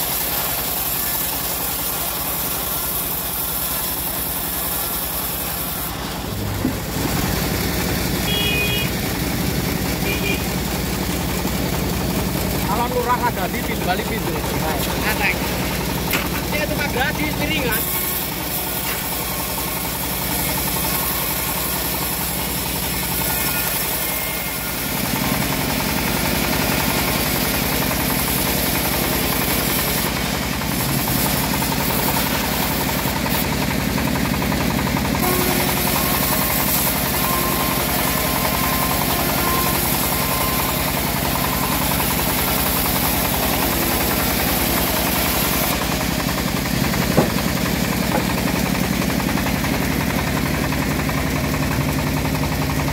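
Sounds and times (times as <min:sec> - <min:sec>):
band sawmill cutting log: 0:00.0 - 0:52.9.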